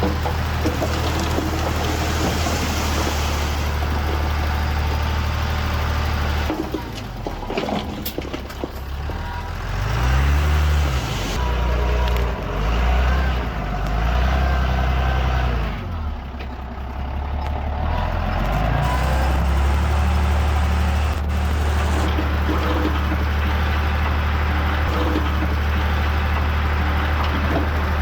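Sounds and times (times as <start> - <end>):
heavy machinery diesel engine: 0.0 - 28.0.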